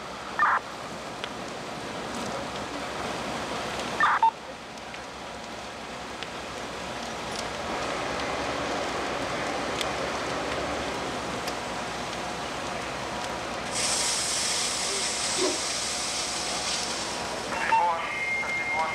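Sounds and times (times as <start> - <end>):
house fire rushing: 0.0 - 18.9.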